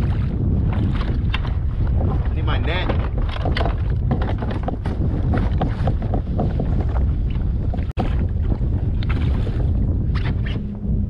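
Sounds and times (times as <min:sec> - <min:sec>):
water splashing beside kayak: 0:00.0 - 0:10.7
wind buffeting microphone: 0:00.0 - 0:11.0.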